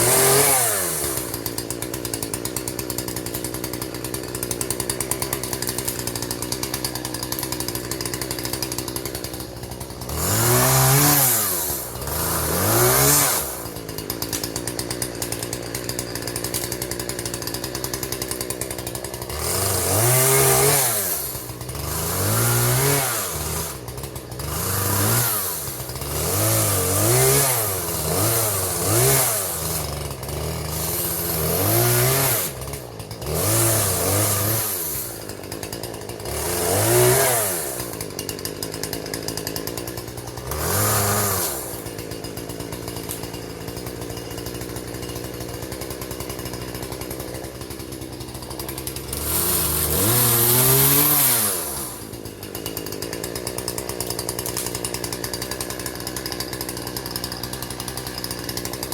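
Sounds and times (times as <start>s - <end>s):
chainsaw revving and idling: 0.0s - 58.9s.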